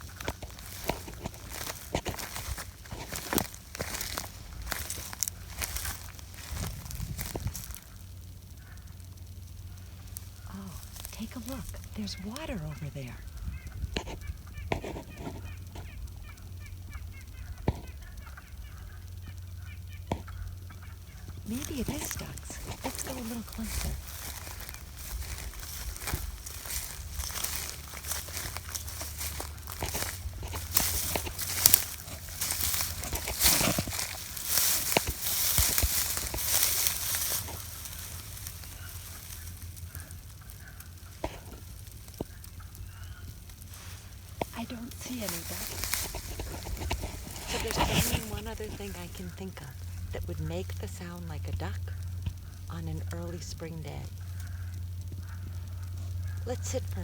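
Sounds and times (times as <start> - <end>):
footsteps crunching through dry leaves: 0.0 - 57.0
frogs clucking calls: 0.0 - 57.0
steady low rumble: 0.0 - 57.0.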